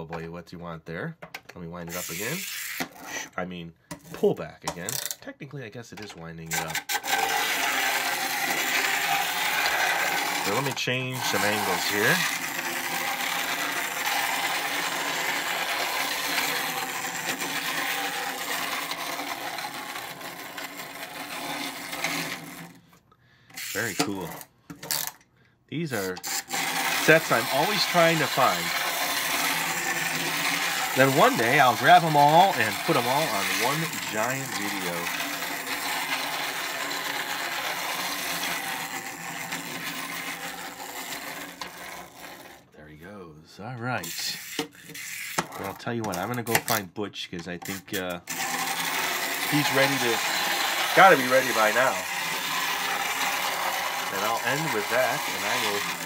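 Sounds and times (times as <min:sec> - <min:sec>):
toy train spring motor whirring: 0:01.9 - 0:03.2, 0:06.4 - 0:25.2, 0:25.9 - 0:42.7, 0:44.0 - 0:46.8, 0:47.6 - 0:56.0
toy train wheels rattling: 0:01.9 - 0:03.2, 0:06.5 - 0:22.8, 0:23.6 - 0:25.2, 0:25.9 - 0:42.7, 0:44.0 - 0:46.8, 0:47.6 - 0:56.0.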